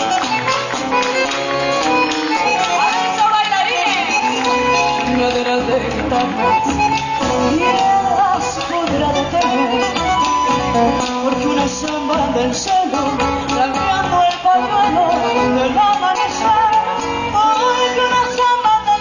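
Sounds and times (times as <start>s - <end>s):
folk music on guitars: 0.0s - 19.0s
person singing: 1.9s - 19.0s.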